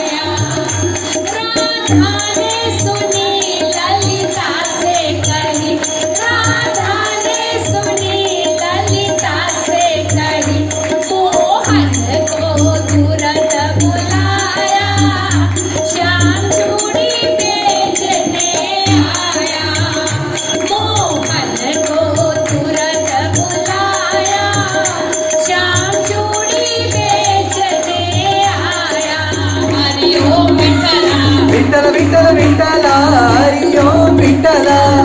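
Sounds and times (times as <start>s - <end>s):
woman singing through microphone: 0.0s - 35.0s.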